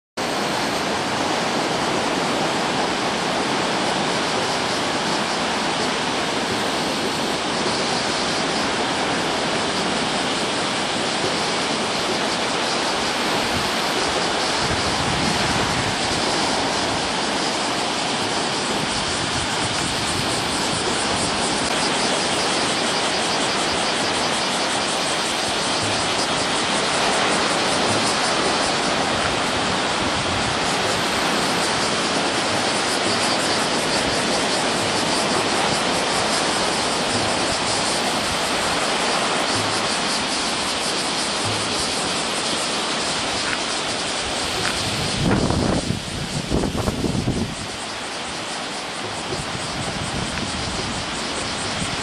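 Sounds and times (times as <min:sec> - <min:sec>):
ocean surf breaking on beach: 0:00.2 - 0:52.0.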